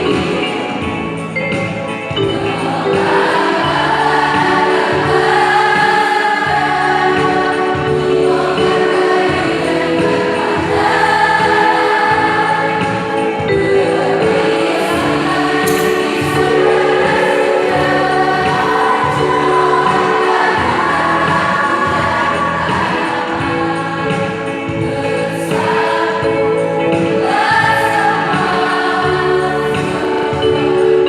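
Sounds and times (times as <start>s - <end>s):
choir singing: 0.0s - 31.0s.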